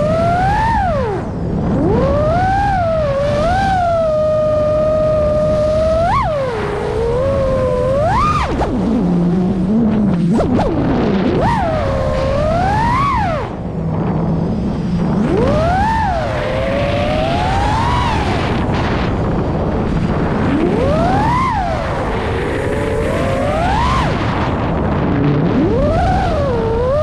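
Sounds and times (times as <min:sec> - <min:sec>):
drone motors whining: 0:00.0 - 0:27.0
wind and propeller noise: 0:00.0 - 0:27.0.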